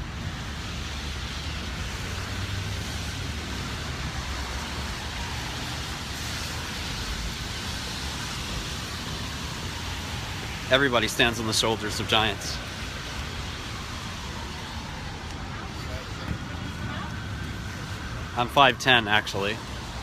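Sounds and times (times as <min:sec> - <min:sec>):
traffic on wet roads: 0:00.0 - 0:20.0.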